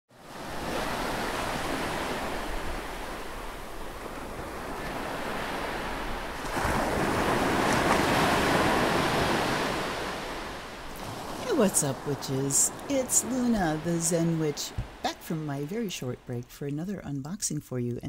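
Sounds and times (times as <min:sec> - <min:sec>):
ocean waves washing in: 0:00.1 - 0:17.2.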